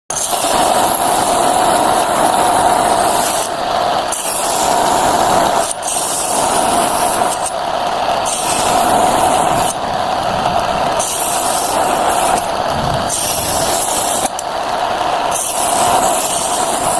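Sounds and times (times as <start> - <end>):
electric saw motor whine: 0.1 - 16.9
saw blade cutting wood: 0.1 - 16.9.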